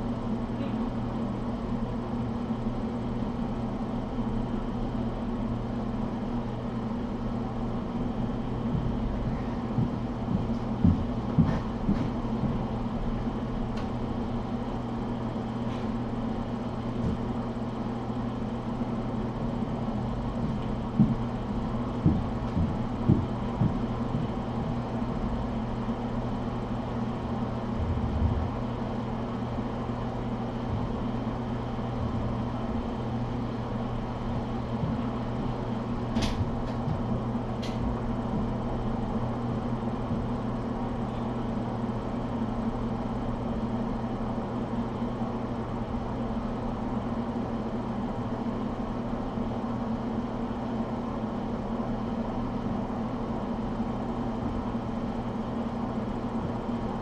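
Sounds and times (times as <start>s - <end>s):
room hum and hiss: 0.0s - 57.0s.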